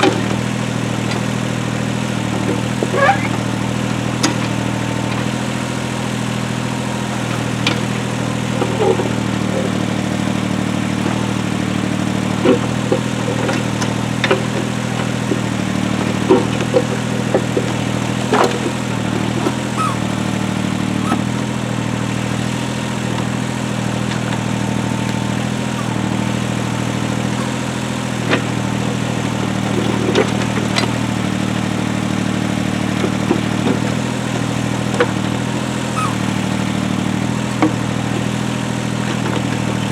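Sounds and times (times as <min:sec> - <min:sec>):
heavy equipment engine running: 0:00.0 - 0:39.9.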